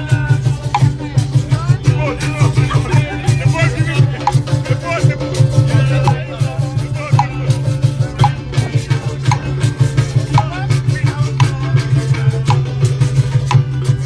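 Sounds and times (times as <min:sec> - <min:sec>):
live band music: 0:00.0 - 0:14.0
maracas shaking: 0:00.0 - 0:14.0.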